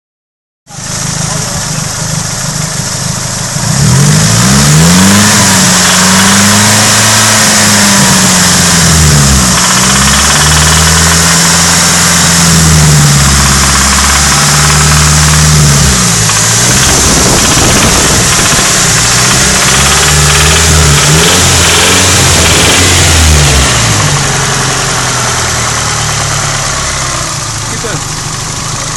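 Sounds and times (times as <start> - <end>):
car engine revving: 0.9 - 28.9
engine rattling and knocking: 4.4 - 28.9.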